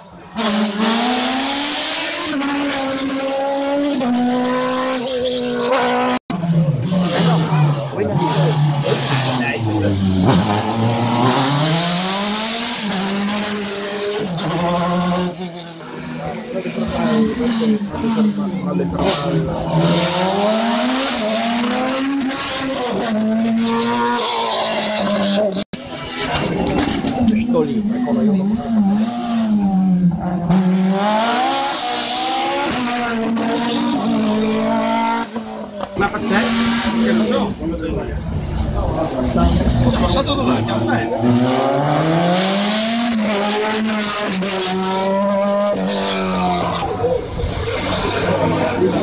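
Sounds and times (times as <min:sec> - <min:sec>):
race car engine at full throttle: 0:00.0 - 0:49.0.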